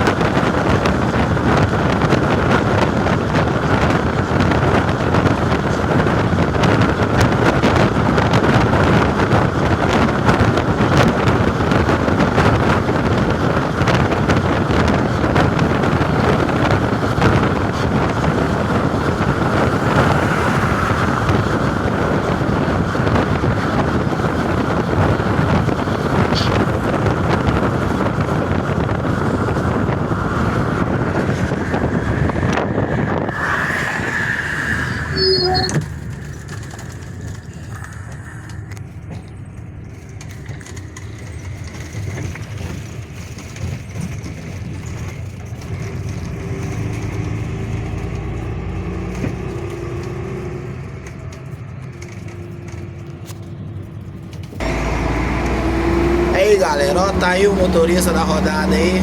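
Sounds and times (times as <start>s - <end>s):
bus diesel engine running: 0.0s - 59.0s
wind buffeting microphone: 0.0s - 59.0s.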